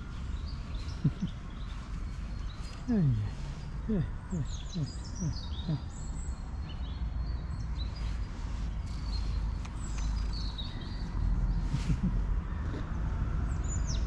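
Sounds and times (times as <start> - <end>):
steady low rumble: 0.0 - 13.9
small birds chirping: 0.0 - 14.0.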